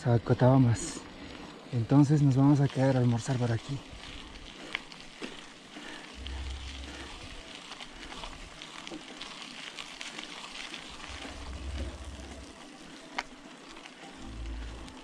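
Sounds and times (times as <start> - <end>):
bike tyres rolling on wet gravel: 0.0 - 15.0.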